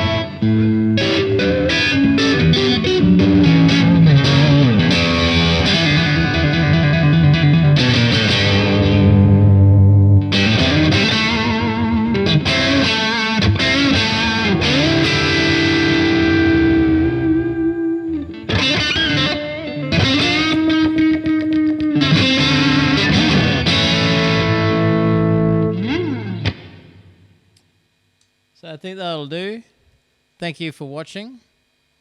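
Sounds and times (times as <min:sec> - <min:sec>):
distorted electric guitar: 0:00.0 - 0:28.2.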